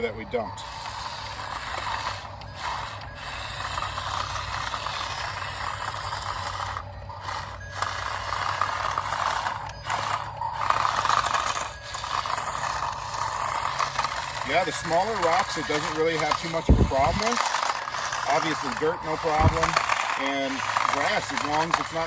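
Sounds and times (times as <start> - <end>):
toy truck motor whirring: 0.0 - 22.0
wheels over dirt and rocks: 0.0 - 22.0.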